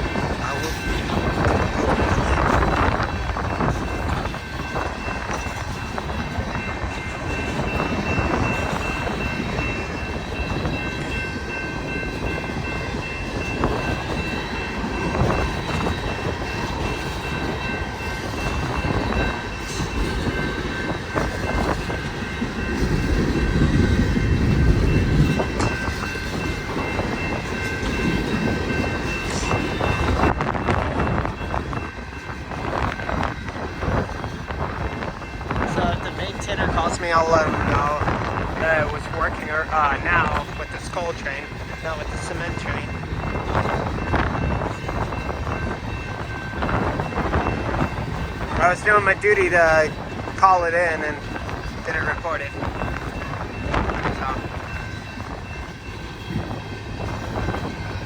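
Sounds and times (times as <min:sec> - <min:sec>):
train cars rattling on rails: 0:00.0 - 0:58.0
wind buffeting microphone: 0:00.0 - 0:58.0.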